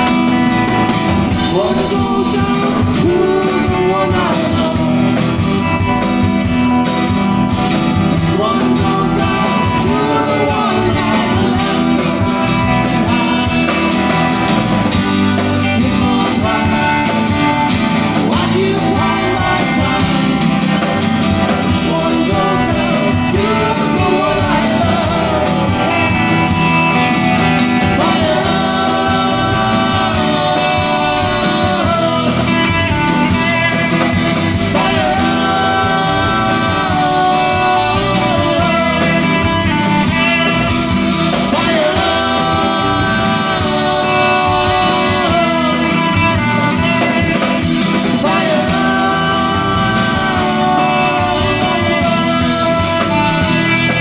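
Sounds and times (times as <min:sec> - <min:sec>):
live band playing: 0:00.0 - 0:54.0
woman singing: 0:01.2 - 0:05.4, 0:08.1 - 0:54.0.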